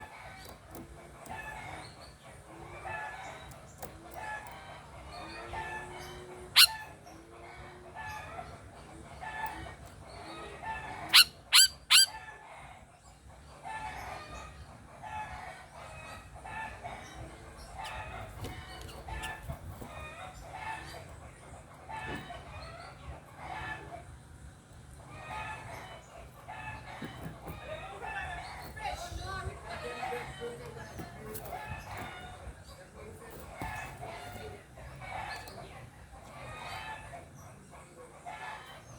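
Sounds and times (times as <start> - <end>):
birds calling and chirping: 0.0 - 38.9.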